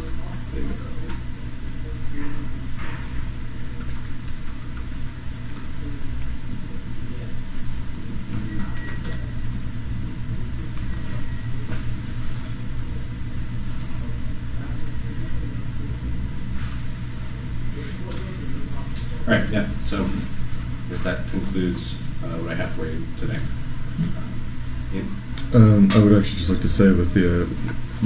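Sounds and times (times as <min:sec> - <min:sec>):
low room rumble: 0:00.0 - 0:28.0.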